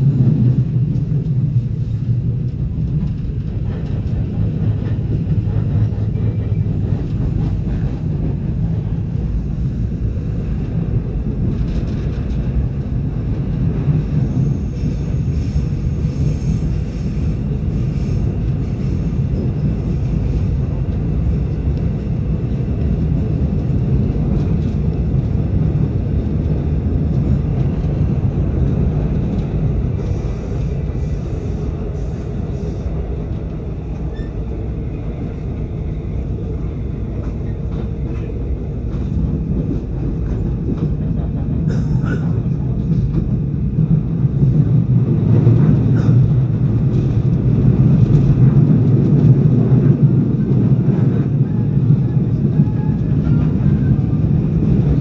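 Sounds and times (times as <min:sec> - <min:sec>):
train wheels rumbling in tunnel: 0:00.0 - 0:55.0.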